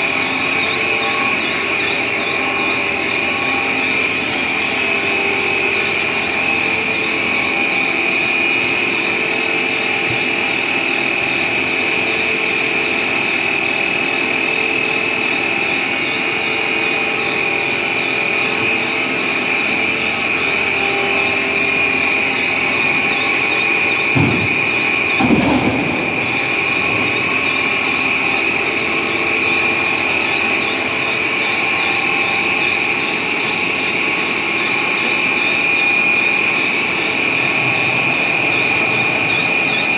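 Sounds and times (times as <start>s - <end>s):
film rewinding machine whine: 0.0s - 39.9s.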